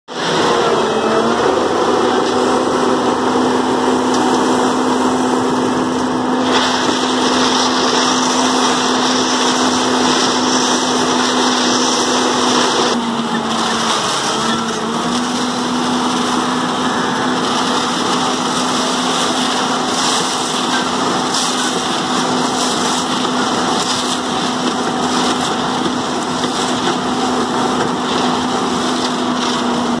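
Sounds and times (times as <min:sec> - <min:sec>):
diesel engine running at high revs: 0:00.0 - 0:30.0
loader bucket scooping aggregate: 0:00.1 - 0:30.0.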